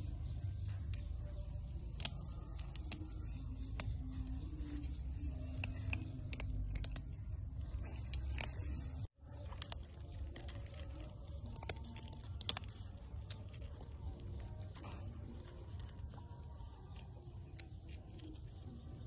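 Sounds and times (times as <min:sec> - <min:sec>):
kittens crunching dry kibble: 0:00.0 - 0:19.0.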